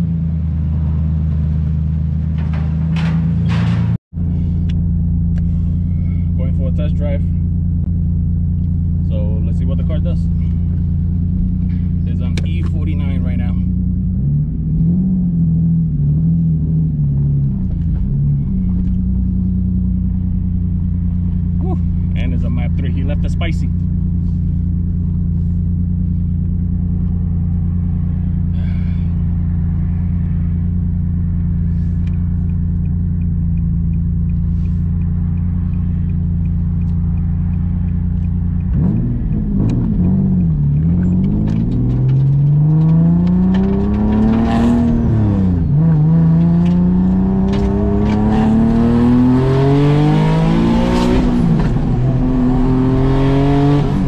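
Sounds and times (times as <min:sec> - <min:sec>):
car engine accelerating through gears: 0:04.2 - 0:54.0.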